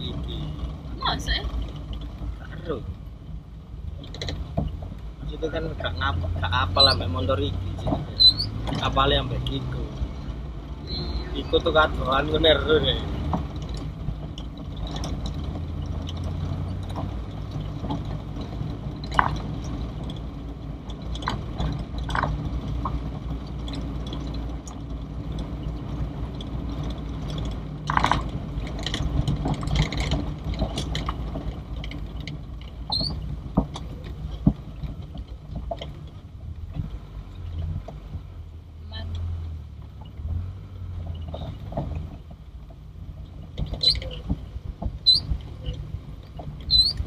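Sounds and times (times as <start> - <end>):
car engine and road rumble: 0.0 - 47.0
knocks and rattles: 3.8 - 10.9, 11.5 - 38.4, 39.1 - 47.0.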